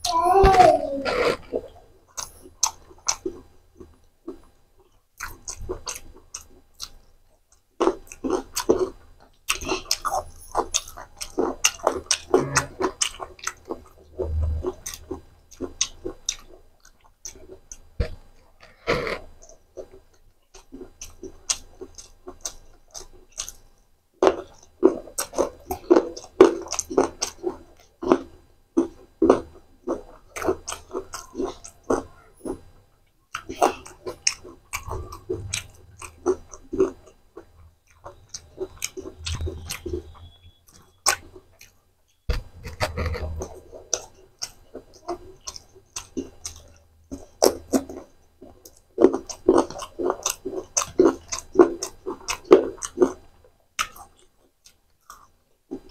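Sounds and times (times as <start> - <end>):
crunchy chewing: 0.9 - 55.9.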